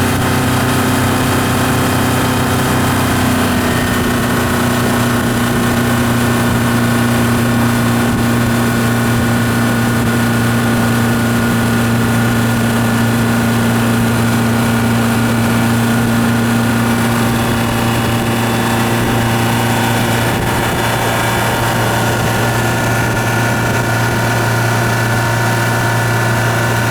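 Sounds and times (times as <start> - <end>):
outboard engine idling: 0.0 - 26.9.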